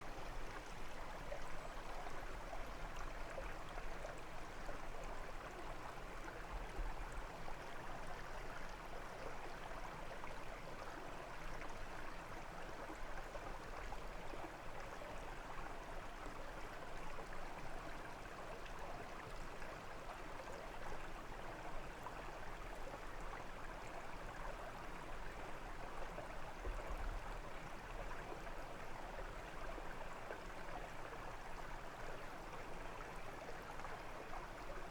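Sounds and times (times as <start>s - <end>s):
brook babbling: 0.0s - 34.9s.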